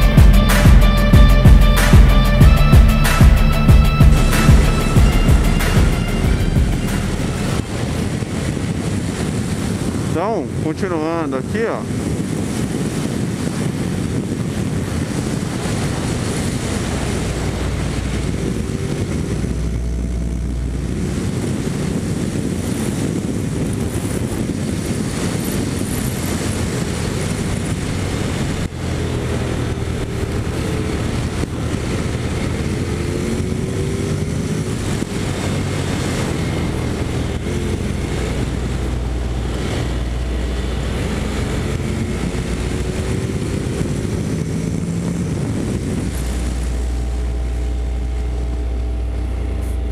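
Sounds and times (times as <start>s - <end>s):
motorcycle engine accelerating: 0.0s - 10.3s, 11.9s - 49.9s
wind noise on microphone: 0.0s - 49.9s.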